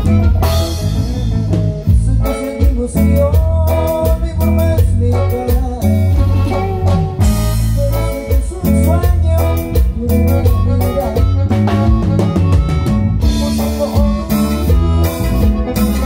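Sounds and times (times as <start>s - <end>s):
live band playing latin dance music: 0.0s - 16.0s.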